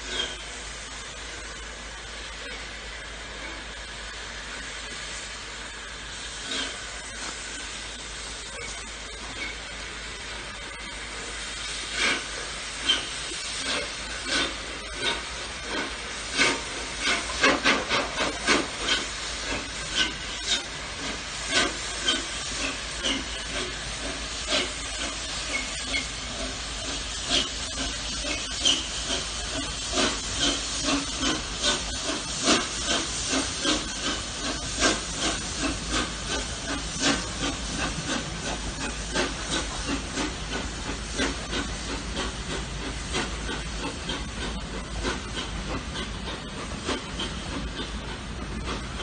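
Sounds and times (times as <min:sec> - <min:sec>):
steam hissing: 0:00.0 - 0:49.0
train clicks and knocks: 0:00.0 - 0:49.0.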